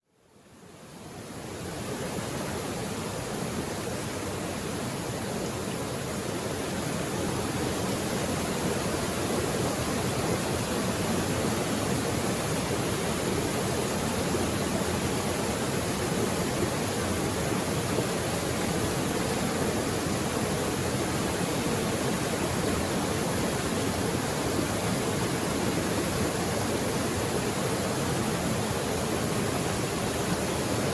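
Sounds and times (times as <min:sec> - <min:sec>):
water rushing over rocks: 0:02.1 - 0:30.9.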